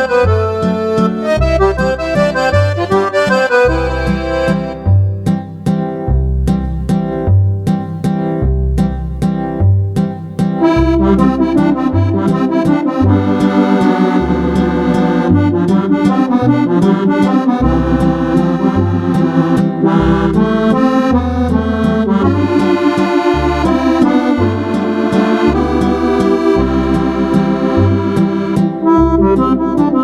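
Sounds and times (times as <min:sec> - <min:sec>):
electronic accordion melody: 0:00.0 - 0:06.1, 0:10.6 - 0:30.0
accordion bass notes: 0:00.0 - 0:30.0.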